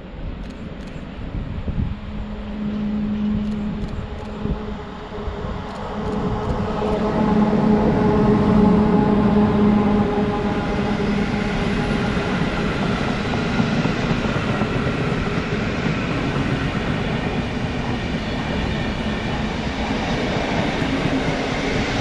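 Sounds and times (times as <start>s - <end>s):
electric locomotive humming: 0.0s - 22.0s.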